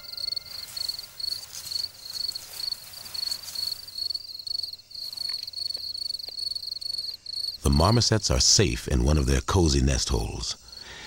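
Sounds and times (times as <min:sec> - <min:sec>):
insects chirping trill: 0:00.0 - 0:11.0.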